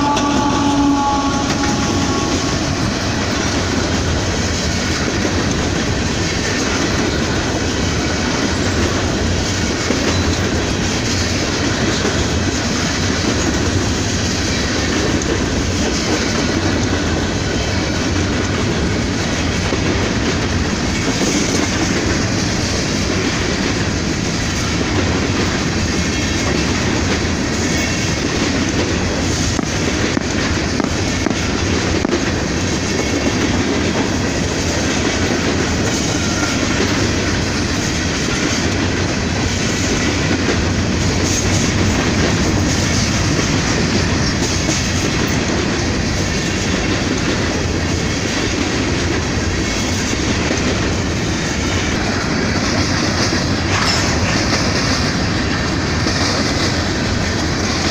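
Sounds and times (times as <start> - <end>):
train wheels rolling on rails: 0.0 - 57.9.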